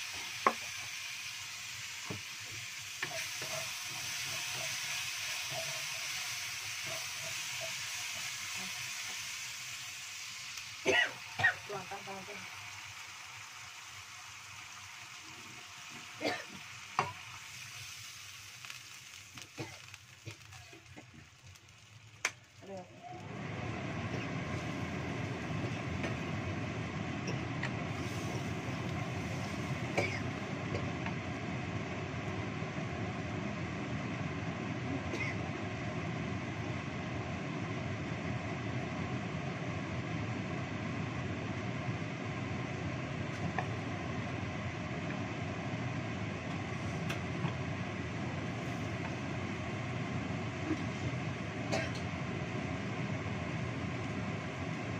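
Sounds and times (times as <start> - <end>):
sauce bubbling in a wok: 0.0 - 11.4, 12.4 - 54.9
gas stove burner running: 0.0 - 54.9.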